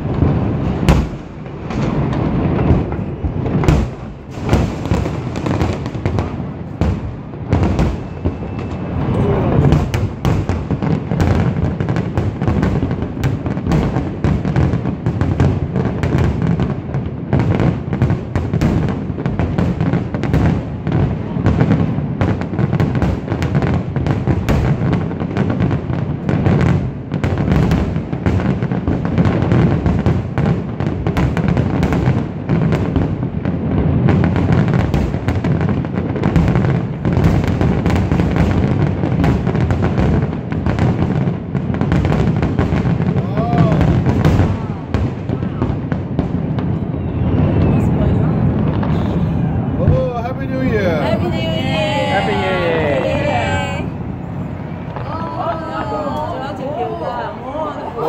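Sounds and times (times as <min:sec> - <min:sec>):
fireworks bursts and crackle: 0:00.0 - 0:58.0.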